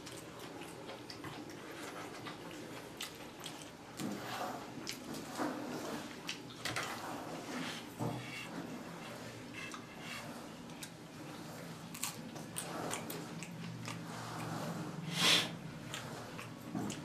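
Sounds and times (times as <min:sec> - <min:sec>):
person chewing food: 0:00.0 - 0:06.6, 0:07.8 - 0:17.0.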